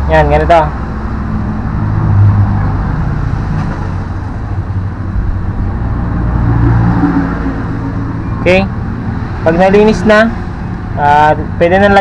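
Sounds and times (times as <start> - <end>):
low mechanical rumble: 0.0 - 11.7.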